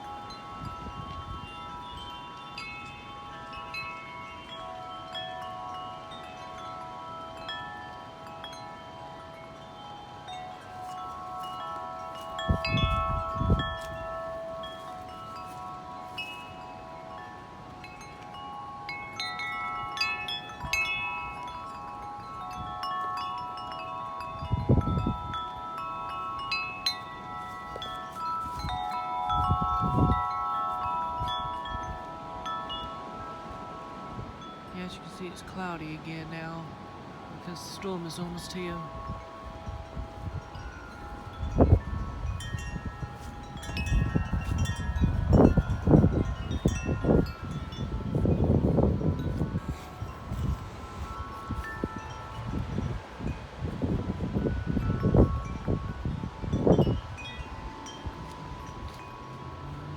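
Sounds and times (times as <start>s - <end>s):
wind chimes ringing: 0.0s - 59.9s
wind gusts buffeting microphone: 0.0s - 59.9s.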